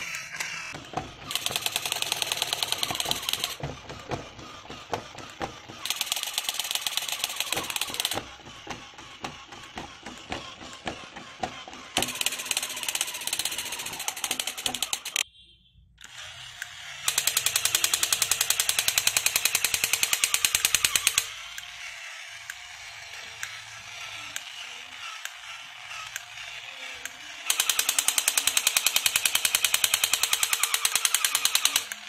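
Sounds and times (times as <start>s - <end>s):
toy electronic rapid-fire gun sound: 0.0s - 15.2s, 16.0s - 32.0s
toy mechanism clicking: 0.0s - 15.2s, 16.0s - 32.0s.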